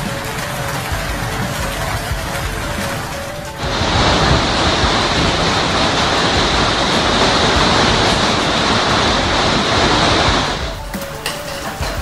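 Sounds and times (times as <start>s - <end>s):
hail and heavy rain: 0.0s - 12.0s.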